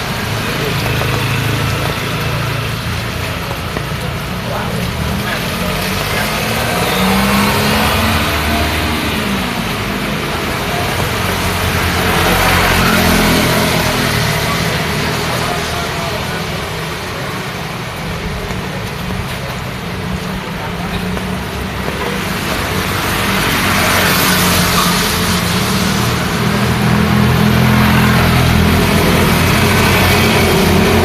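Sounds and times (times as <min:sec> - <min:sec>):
car engines running: 0:00.0 - 0:31.0
rain hissing: 0:00.0 - 0:31.0
vehicle passing close: 0:00.0 - 0:31.0.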